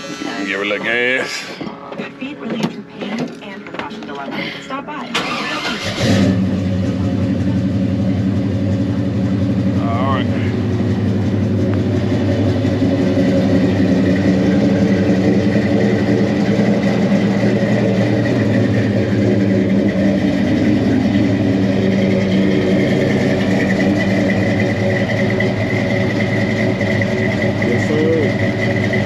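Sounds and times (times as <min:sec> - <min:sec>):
pickup engine idling: 0:04.1 - 0:29.0.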